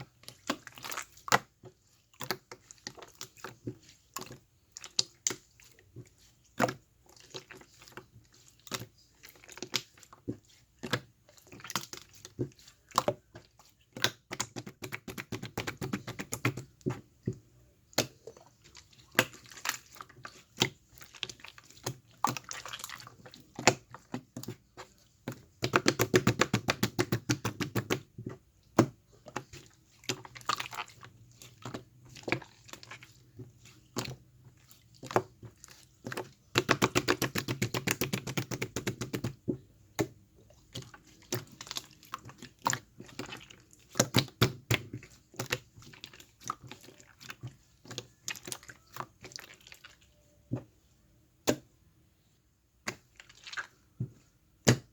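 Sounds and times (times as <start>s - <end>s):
hands squishing slime: 0.0s - 50.8s, 52.7s - 54.9s.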